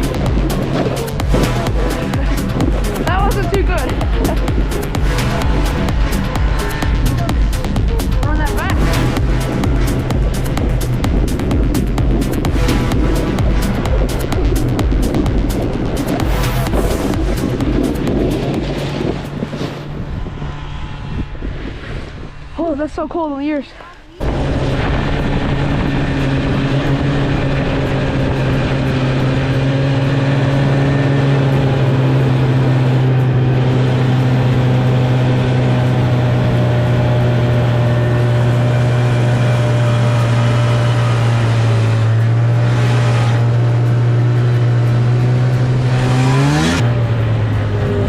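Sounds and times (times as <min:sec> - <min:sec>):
snowmobile engine running: 0:00.0 - 0:48.0.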